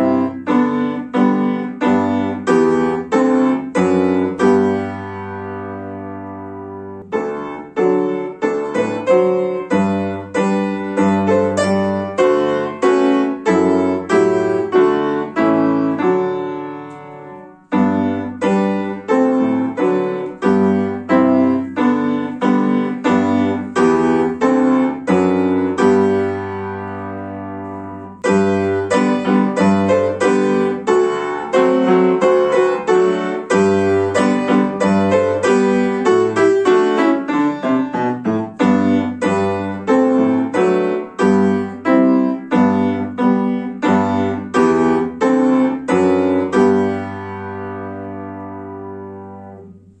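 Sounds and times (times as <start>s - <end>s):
upright piano playing a hymn: 0.0s - 50.0s.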